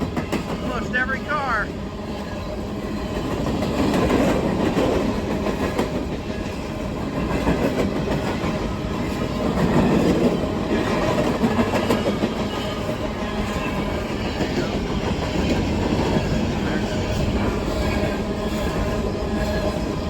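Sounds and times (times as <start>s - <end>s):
clickety-clack over rail joints: 0.0s - 0.9s, 2.0s - 20.0s
train wheel and rail rumble: 0.0s - 20.0s.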